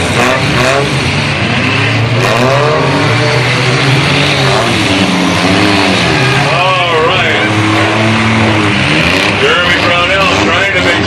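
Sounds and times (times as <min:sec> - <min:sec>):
car engines revving hard: 0:00.0 - 0:11.0
low engine drone: 0:00.0 - 0:11.0.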